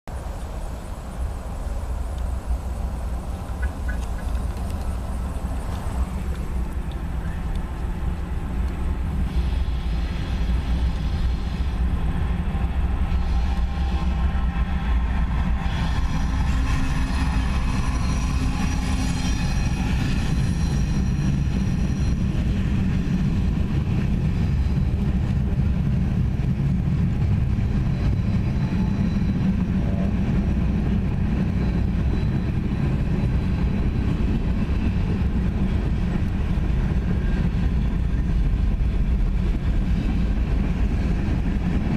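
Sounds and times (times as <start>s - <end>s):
diesel locomotives rumbling: 0.1s - 41.9s.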